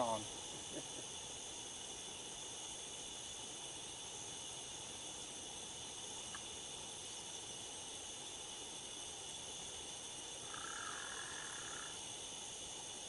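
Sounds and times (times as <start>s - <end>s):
insects buzzing: 0.0s - 13.0s
low insect trill: 0.0s - 13.0s.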